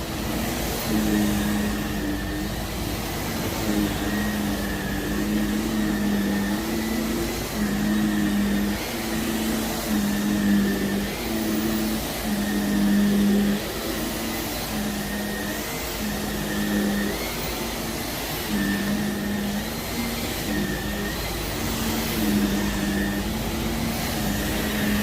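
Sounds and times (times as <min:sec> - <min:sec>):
vacuum cleaner running on carpet: 0:00.0 - 0:25.0.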